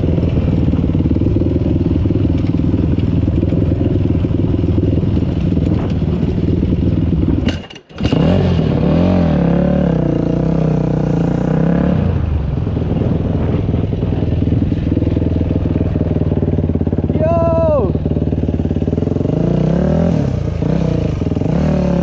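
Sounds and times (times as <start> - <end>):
dirt bike engine revving: 0.0 - 12.3, 13.0 - 22.0.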